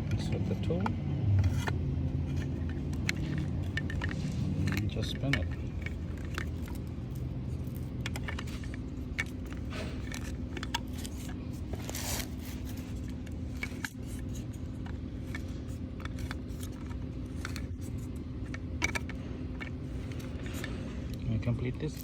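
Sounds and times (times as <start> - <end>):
steady low hum: 0.0 - 22.0
plastic clicks and scrapes: 0.1 - 21.2.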